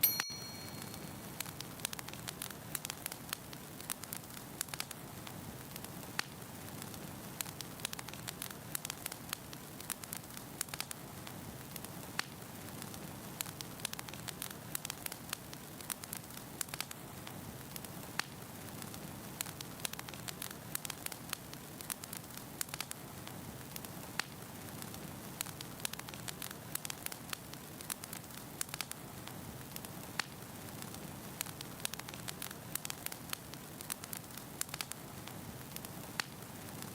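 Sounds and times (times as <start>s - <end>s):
logs crackling and popping: 0.8s - 36.9s
fire flames hissing: 1.0s - 36.9s.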